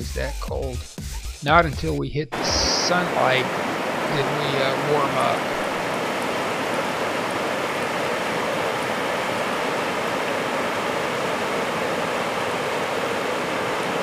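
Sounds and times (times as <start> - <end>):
mountain stream rushing: 2.3 - 14.0.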